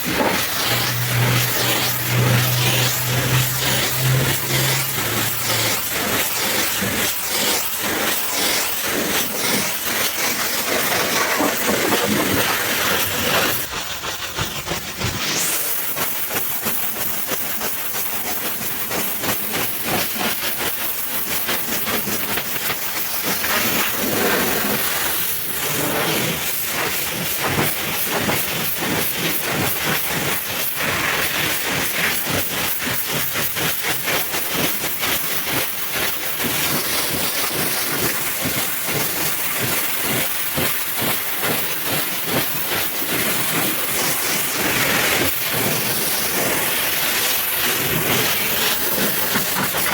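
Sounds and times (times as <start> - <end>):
pressure washer spraying water: 0.0 - 49.9.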